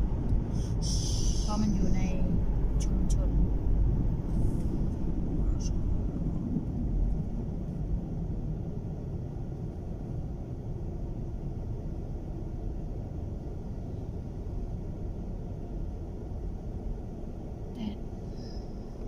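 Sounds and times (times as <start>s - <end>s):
car driving heard from inside: 0.0s - 19.0s.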